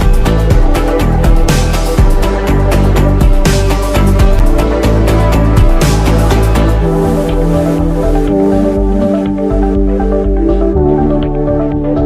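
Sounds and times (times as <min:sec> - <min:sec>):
steady low beat: 0:00.0 - 0:12.0
synth notes: 0:00.0 - 0:12.0.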